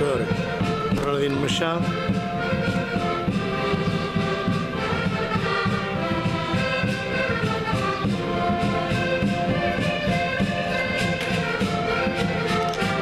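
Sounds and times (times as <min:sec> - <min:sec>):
concertinas playing folk music: 0:00.0 - 0:13.0.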